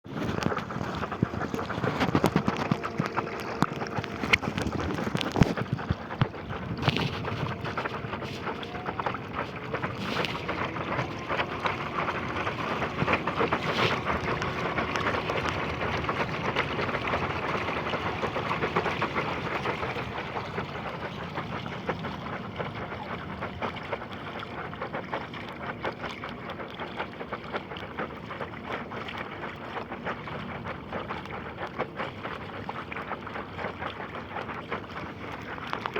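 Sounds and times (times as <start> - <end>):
wind: 0.0 - 35.9.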